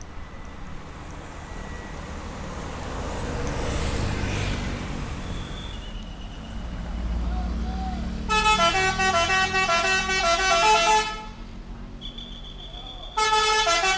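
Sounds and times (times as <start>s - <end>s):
vehicle passing: 0.0s - 13.1s.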